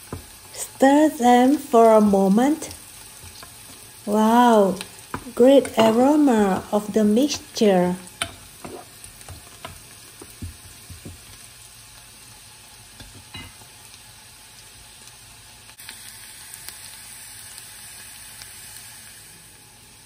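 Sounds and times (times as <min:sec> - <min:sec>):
food sizzling in butter: 0:00.0 - 0:20.0.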